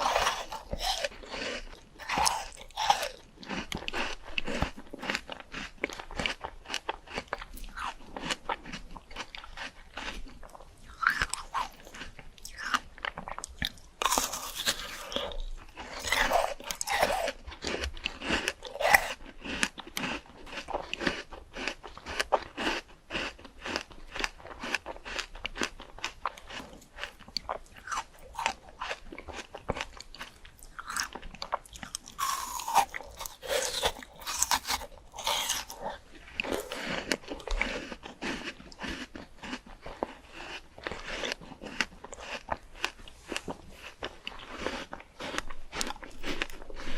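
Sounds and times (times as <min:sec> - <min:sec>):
chewing crisp fruit: 0:00.0 - 0:46.9.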